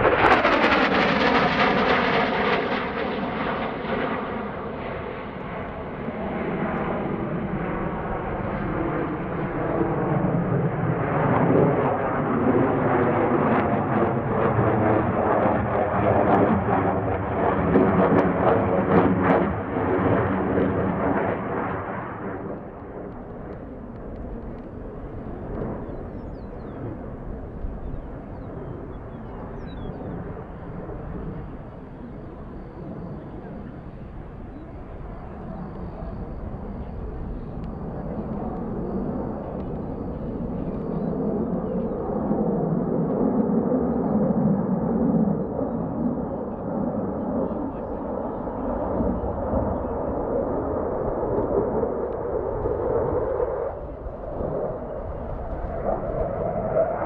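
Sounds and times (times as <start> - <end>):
jet engines in flight: 0.0 - 57.0.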